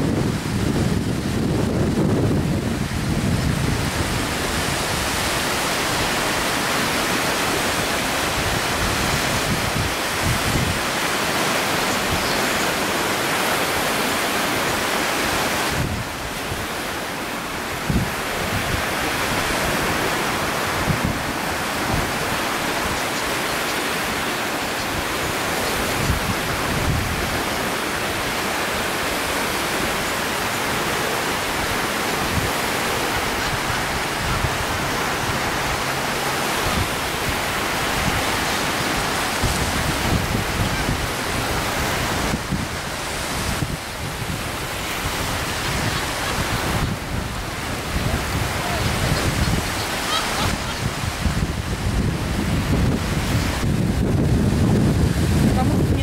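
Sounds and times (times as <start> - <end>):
sea surf: 0.0 - 56.0
wind: 0.0 - 56.0
wind buffeting microphone: 0.0 - 56.0.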